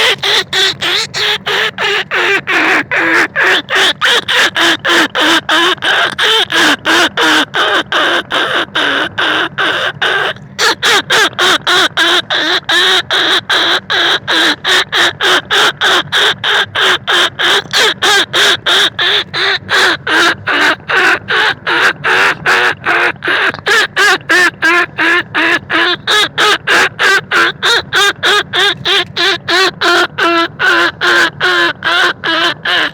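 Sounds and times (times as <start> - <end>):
rapid squeaking calls: 0.0 - 32.9.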